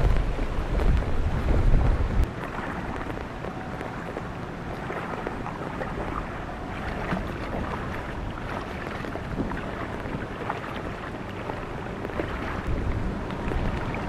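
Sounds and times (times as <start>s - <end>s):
boat motors running: 0.0s - 14.0s
rain hissing over water: 0.0s - 14.0s
wind buffeting microphone: 0.0s - 14.0s.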